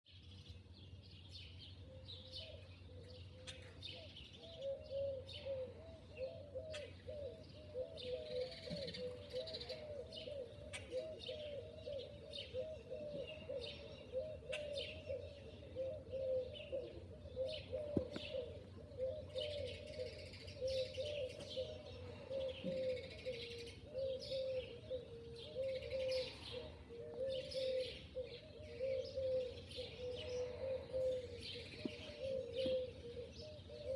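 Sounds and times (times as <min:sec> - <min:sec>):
birds cooing: 0:01.8 - 0:33.9.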